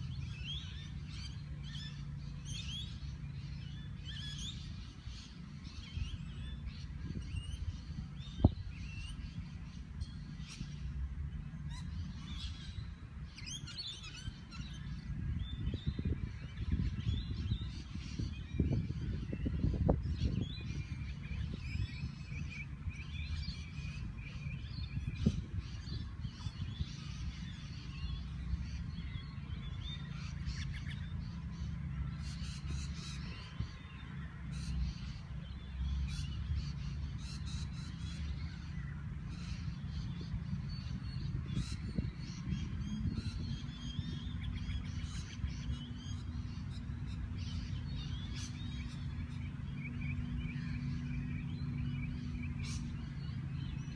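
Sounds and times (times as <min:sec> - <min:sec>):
birds chirping: 0:00.0 - 0:53.9
low steady hum: 0:00.0 - 0:53.9.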